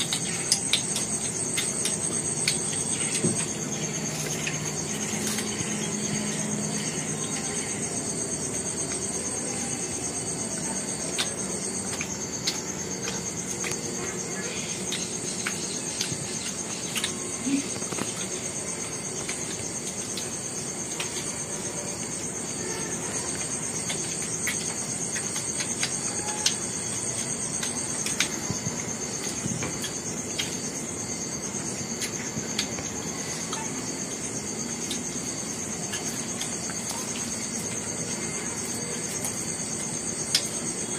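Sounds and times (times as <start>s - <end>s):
insects trilling: 0.0s - 40.9s
people chewing: 0.0s - 40.9s.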